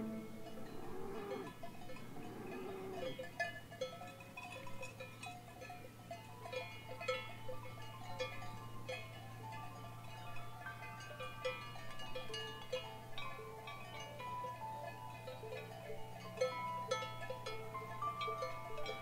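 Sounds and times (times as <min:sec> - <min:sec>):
bells tinkling: 0:00.0 - 0:19.0
low steady hum: 0:00.0 - 0:19.0.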